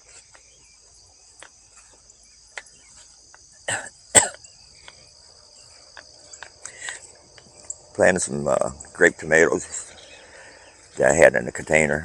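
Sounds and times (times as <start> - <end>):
insects chirping chorus: 0.0 - 12.0.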